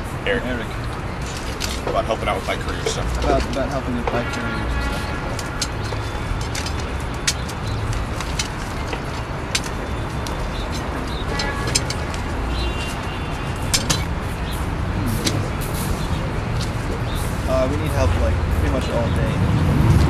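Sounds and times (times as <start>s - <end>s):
faint voices: 0.0s - 7.3s, 10.8s - 20.0s
low traffic rumble: 0.0s - 20.0s.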